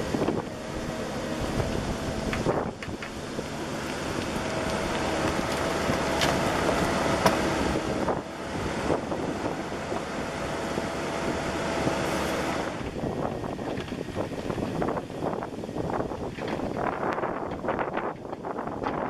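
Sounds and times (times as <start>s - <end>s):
excavator diesel engine whining: 0.0s - 19.0s.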